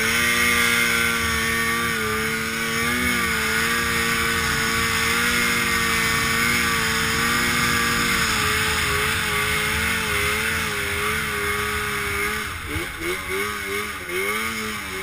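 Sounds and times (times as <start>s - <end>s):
snowmobile engine high revs: 0.0s - 15.0s.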